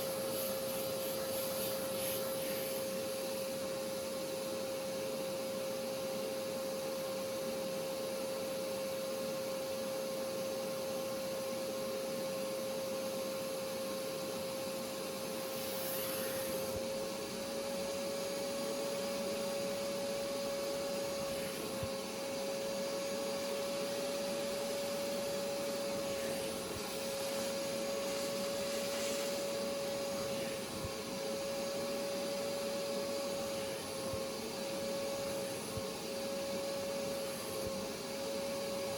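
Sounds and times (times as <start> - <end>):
carpet cleaner suction motor humming: 0.0 - 38.9.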